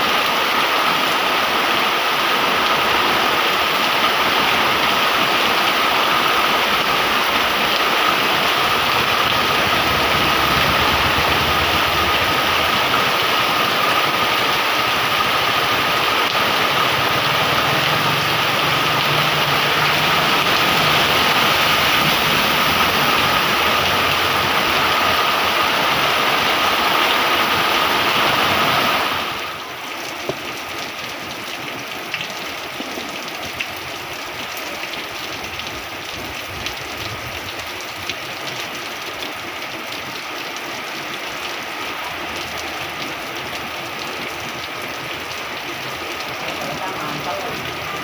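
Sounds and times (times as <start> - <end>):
heavy rain falling: 0.0 - 48.0
rush of water with steady tone: 0.0 - 48.0.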